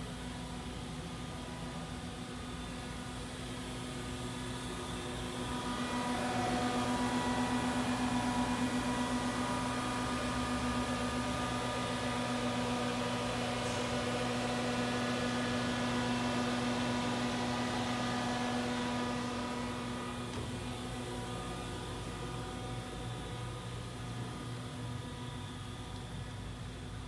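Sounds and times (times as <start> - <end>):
machine hum with whine: 0.0 - 27.0.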